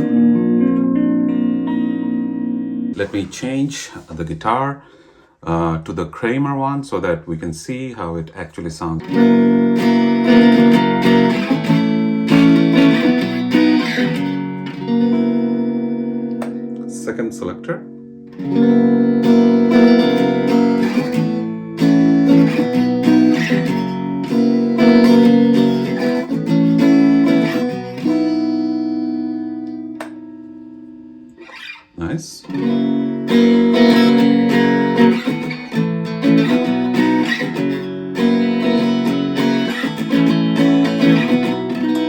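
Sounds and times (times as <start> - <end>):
electric guitar strummed chords: 0.0 - 3.5, 9.0 - 31.7, 32.4 - 42.0.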